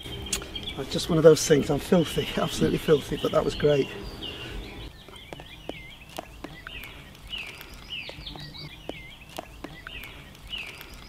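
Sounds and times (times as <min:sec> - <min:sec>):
small birds calling: 0:00.0 - 0:11.0.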